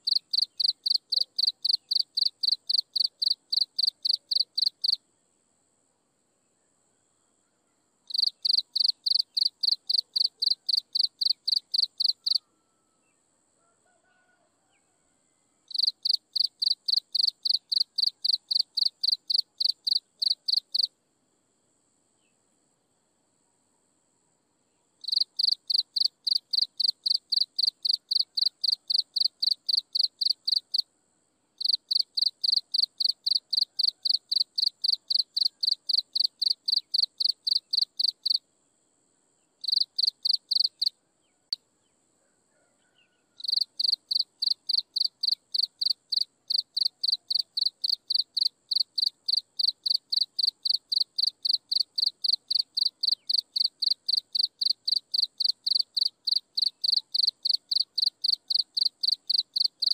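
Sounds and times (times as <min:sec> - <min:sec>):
cricket chirping: 0:00.0 - 0:05.8, 0:06.4 - 0:14.3, 0:15.5 - 0:59.9.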